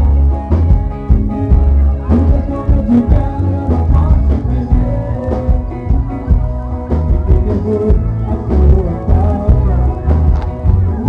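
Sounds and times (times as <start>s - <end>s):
drum kit beat: 0.0s - 11.0s
electric guitar: 0.0s - 11.0s
heavy bass line: 0.0s - 11.0s.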